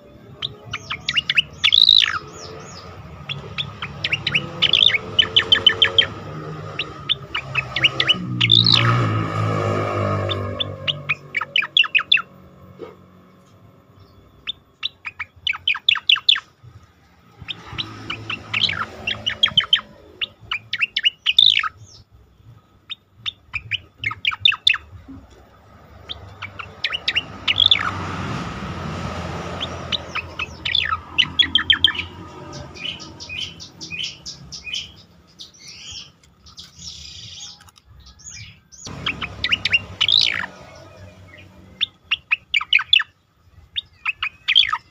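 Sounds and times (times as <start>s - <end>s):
bird singing sweeping chirps: 0.0s - 16.6s, 17.2s - 44.9s.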